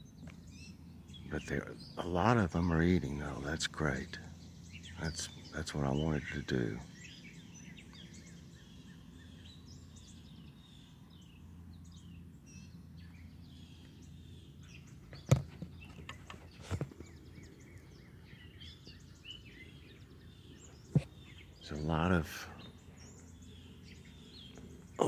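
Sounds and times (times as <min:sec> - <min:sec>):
low steady hum: 0:00.0 - 0:25.0
songbirds chirping: 0:00.0 - 0:25.0.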